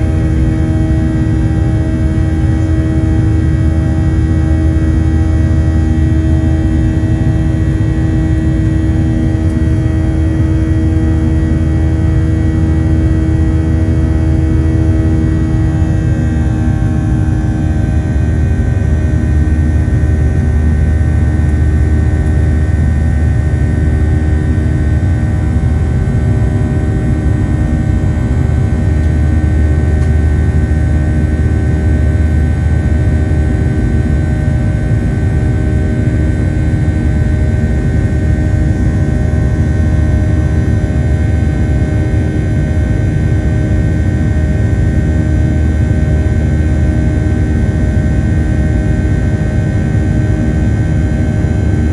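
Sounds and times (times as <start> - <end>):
jet engine drone in cabin: 0.0 - 51.9.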